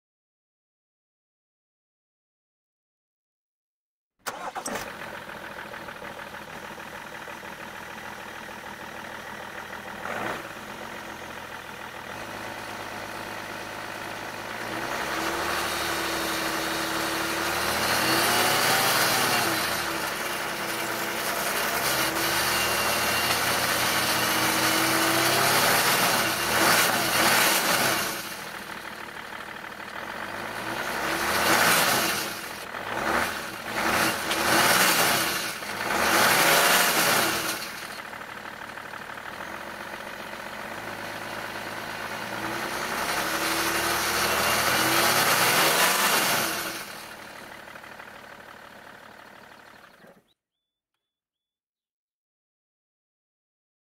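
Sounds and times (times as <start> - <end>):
diesel engine idling and revving: 4.2 - 50.4.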